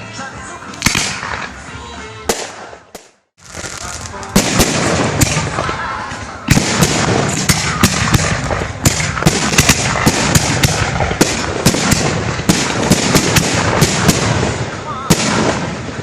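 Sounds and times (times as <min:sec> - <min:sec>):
fireworks bursting with sharp bangs: 0:00.8 - 0:01.7, 0:02.3 - 0:16.0.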